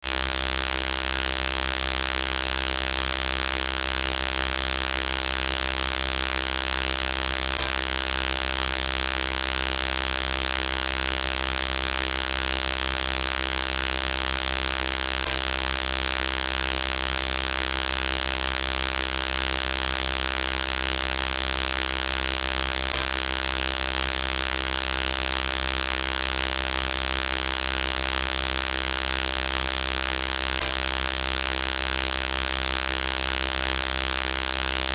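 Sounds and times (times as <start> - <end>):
electronic robot buzz: 0.0 - 34.9.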